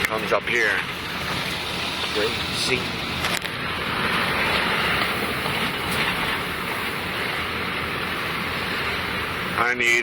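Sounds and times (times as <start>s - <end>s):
car tyre and engine rumble: 0.0s - 10.0s.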